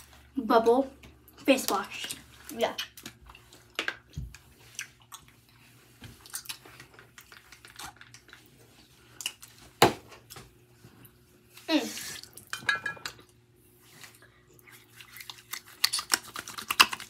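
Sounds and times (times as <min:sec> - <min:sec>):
soft wet sounds: 0:00.0 - 0:17.0.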